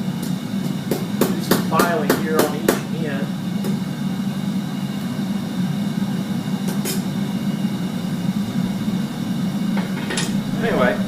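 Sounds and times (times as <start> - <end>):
forge burner roaring: 0.0 - 11.0.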